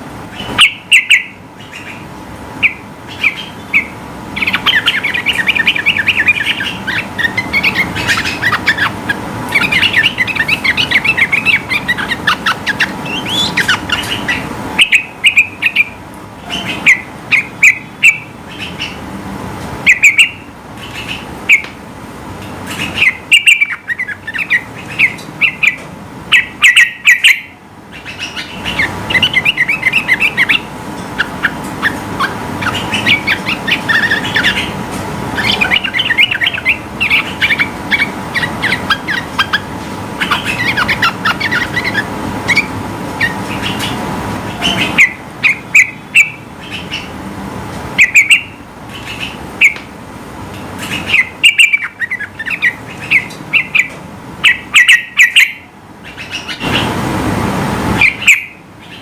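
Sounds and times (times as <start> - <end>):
faint steady hum: 0.0 - 59.0
bird song with fast chirping: 0.3 - 19.0, 19.8 - 21.7, 22.7 - 34.8, 35.4 - 47.1, 48.0 - 49.8, 50.8 - 56.8, 58.0 - 59.0.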